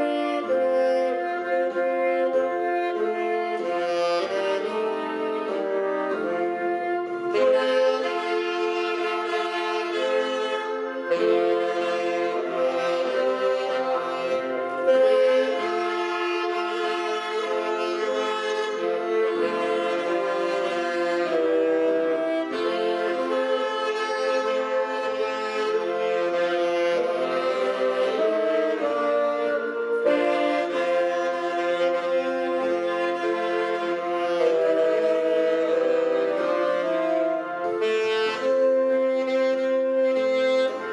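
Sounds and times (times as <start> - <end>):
saxophone ensemble playing hymn: 0.0 - 40.9.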